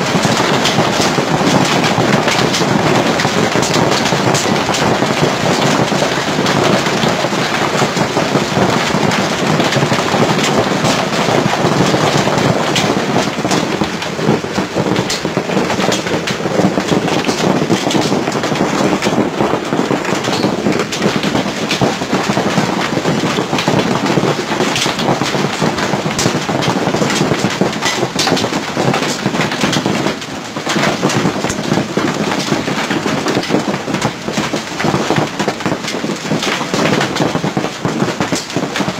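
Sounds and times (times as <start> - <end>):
hail and rain pelting: 0.0 - 38.9.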